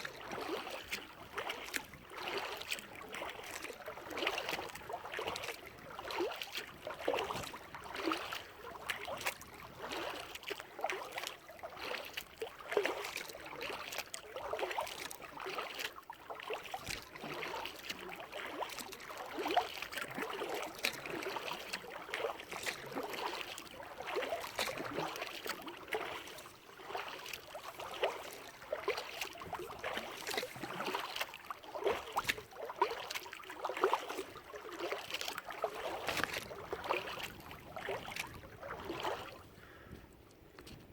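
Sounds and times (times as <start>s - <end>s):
kayak paddle splashing water: 0.0s - 40.9s.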